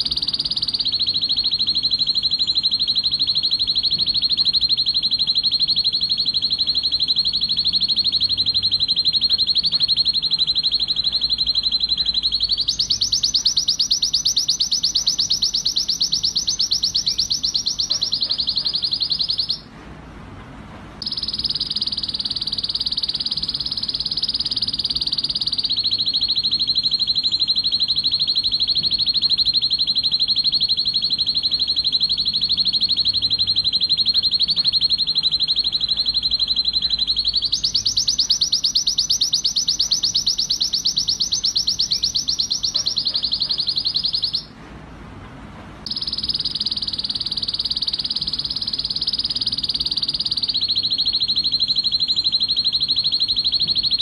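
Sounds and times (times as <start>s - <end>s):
canary singing trills: 0.0s - 19.7s, 21.0s - 44.6s, 45.9s - 54.0s.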